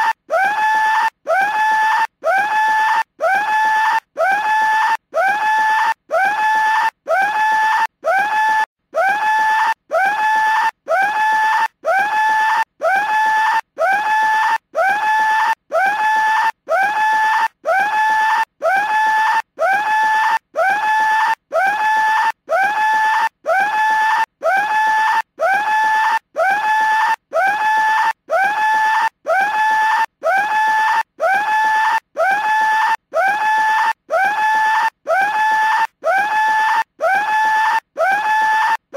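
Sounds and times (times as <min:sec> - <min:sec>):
cartoon telephone scream ringtone: 0:00.0 - 0:38.9.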